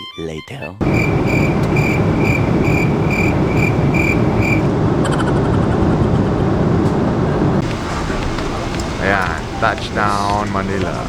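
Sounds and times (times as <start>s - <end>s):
airliner cabin roar: 0.8s - 11.0s.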